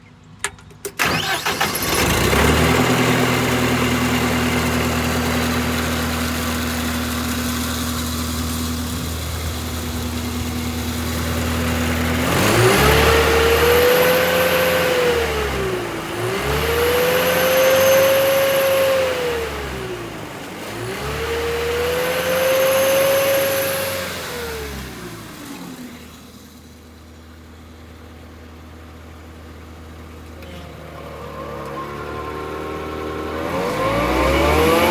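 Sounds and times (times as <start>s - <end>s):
stump grinder engine running: 1.0s - 27.2s, 29.3s - 34.9s.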